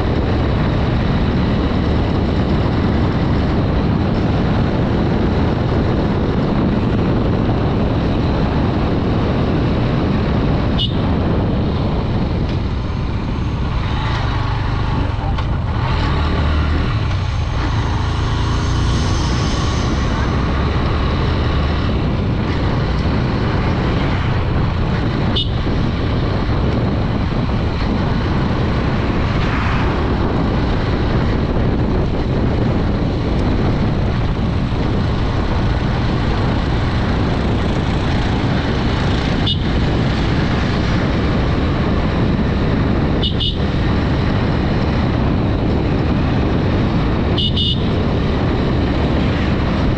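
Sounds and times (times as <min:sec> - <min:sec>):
motorcycle engine running: 0:00.0 - 0:29.2, 0:30.0 - 0:49.9
wind rush on microphone: 0:00.0 - 0:49.9.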